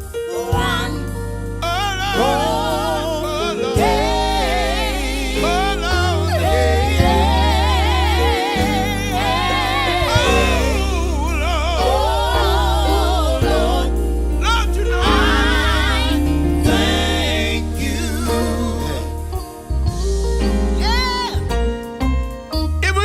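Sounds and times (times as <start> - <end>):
gospel group singing: 0.0 - 21.7
band with heavy bass line: 0.0 - 23.0.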